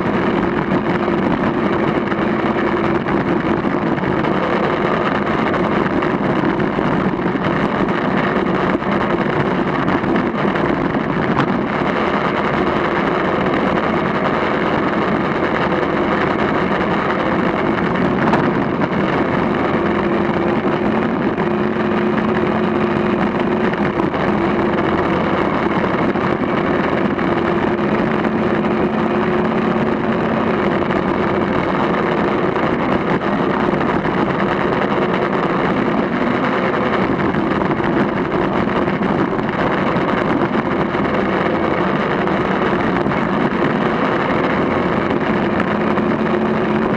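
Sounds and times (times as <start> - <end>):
road and wind noise: 0.0 - 46.9
vehicle engine drone: 0.0 - 46.9.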